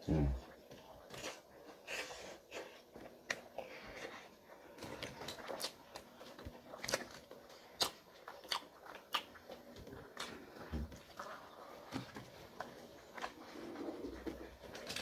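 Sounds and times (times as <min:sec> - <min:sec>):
crunchy food chewing: 0:00.4 - 0:15.0.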